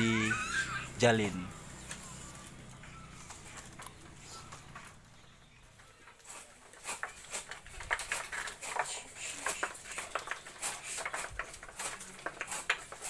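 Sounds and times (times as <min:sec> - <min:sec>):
wooden bobbins clacking: 0:01.8 - 0:13.0.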